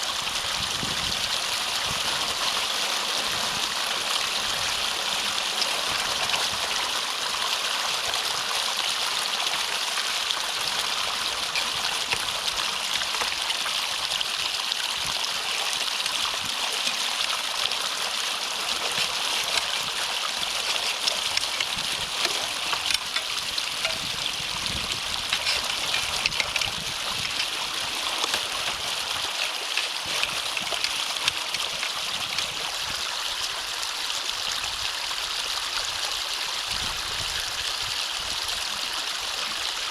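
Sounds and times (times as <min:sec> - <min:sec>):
water rushing through culvert: 0:00.0 - 0:39.9.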